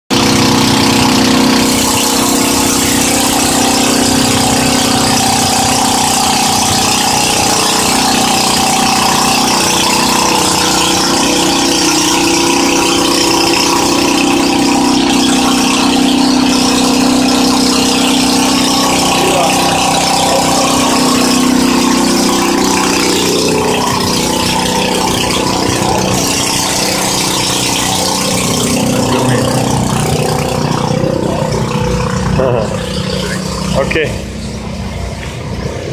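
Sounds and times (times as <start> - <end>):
engine idling: 0.1 - 35.9.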